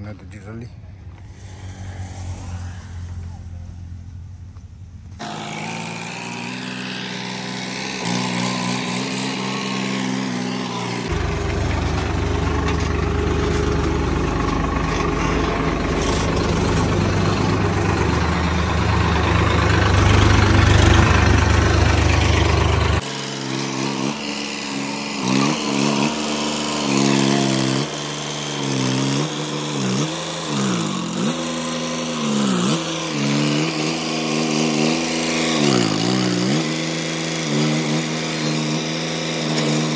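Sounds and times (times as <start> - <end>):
tractor engine revving: 1.1 - 39.9.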